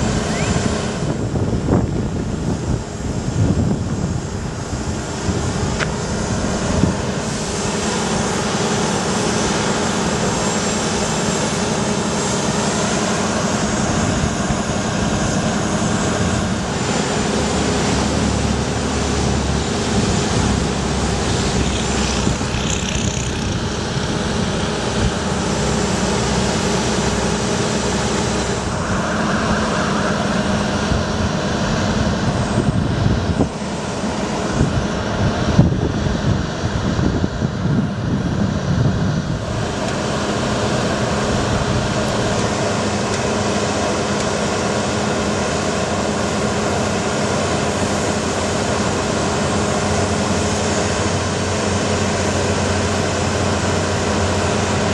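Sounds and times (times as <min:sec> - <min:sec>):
truck engine humming: 0:00.0 - 0:54.9.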